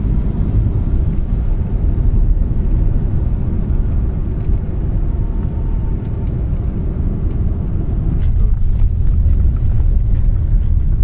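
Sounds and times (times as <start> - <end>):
car interior engine rumble: 0.0 - 11.0.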